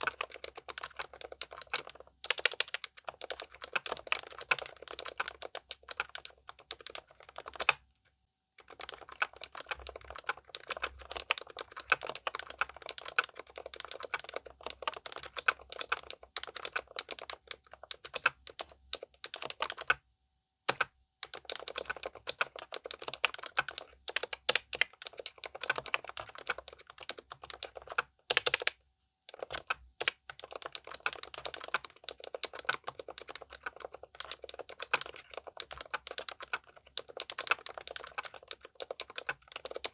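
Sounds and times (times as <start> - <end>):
typing on mechanical keyboard: 0.0 - 7.9, 8.6 - 20.0, 20.7 - 39.9.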